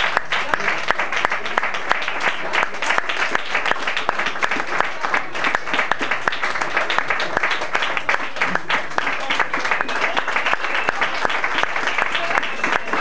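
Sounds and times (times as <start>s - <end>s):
people applauding: 0.0s - 13.0s.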